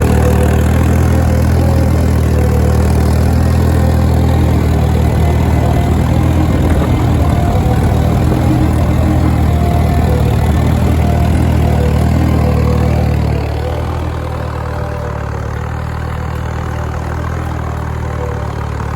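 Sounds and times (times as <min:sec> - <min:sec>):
tractor engine droning: 0:00.0 - 0:18.9.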